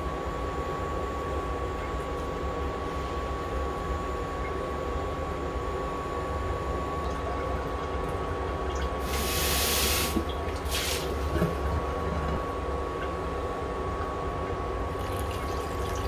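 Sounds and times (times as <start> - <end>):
cooktop fan hum with whine: 0.0 - 16.0.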